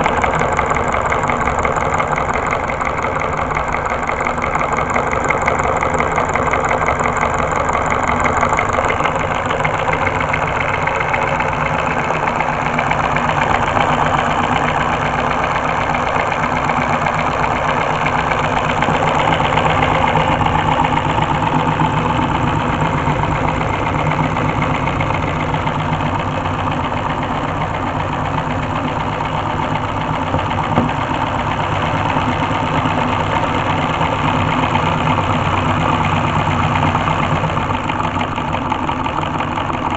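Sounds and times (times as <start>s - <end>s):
solenoid engine clattering: 0.0s - 39.9s.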